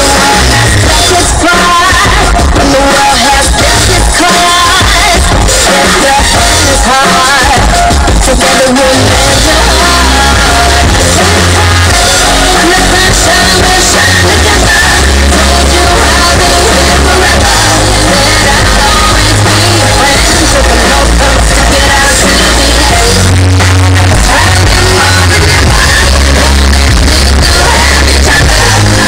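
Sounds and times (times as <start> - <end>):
bass line: 0.0 - 29.0
loud rock music: 0.0 - 29.0
person singing: 0.0 - 29.0.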